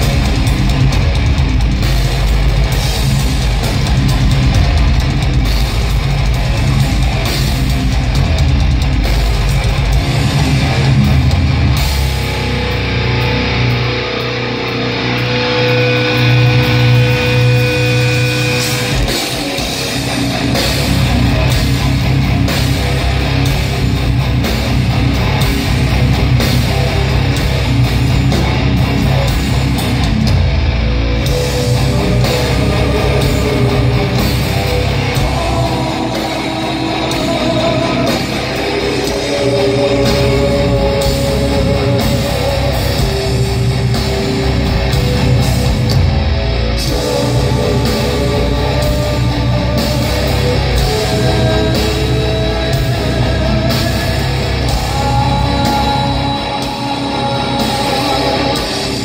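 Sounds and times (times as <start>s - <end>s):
live heavy metal band: 0.0s - 59.0s.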